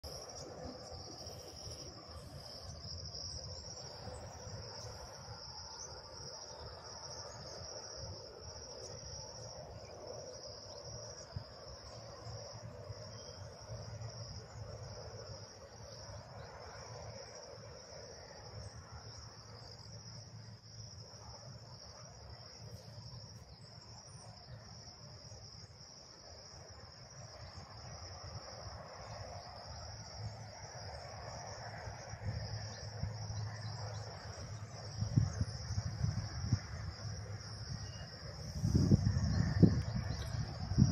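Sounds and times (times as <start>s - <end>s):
insect chorus buzzing: 0.0s - 40.9s.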